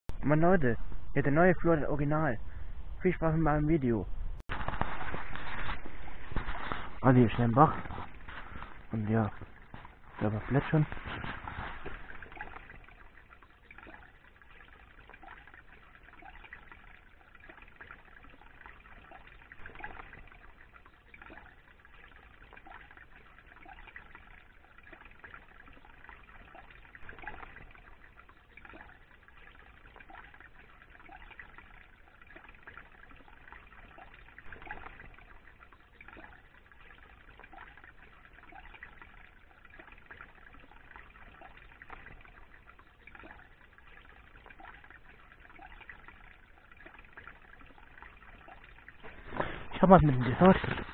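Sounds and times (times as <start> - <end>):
brook trickling over stones: 4.4 - 50.9.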